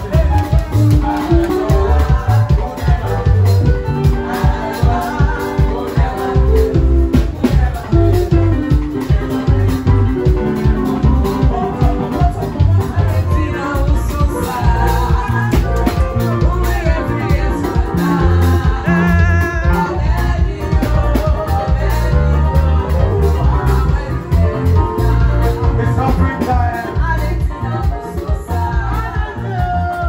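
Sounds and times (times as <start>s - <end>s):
electric guitar: 0.0s - 30.0s
heavy bass: 0.0s - 30.0s
woman singing: 0.0s - 30.0s.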